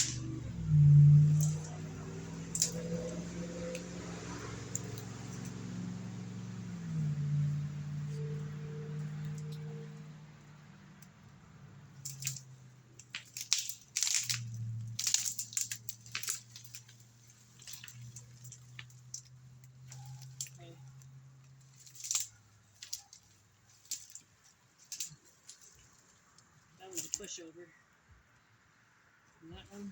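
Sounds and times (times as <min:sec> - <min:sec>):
wood and brush cracking: 0:00.0 - 0:10.1, 0:11.8 - 0:27.6.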